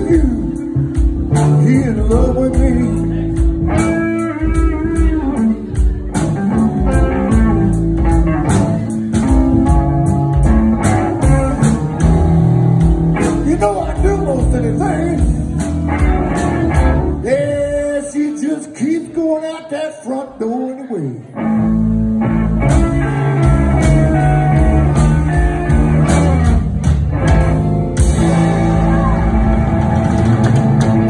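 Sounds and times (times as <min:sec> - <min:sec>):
live blues band playing: 0:00.0 - 0:19.2, 0:21.2 - 0:31.0.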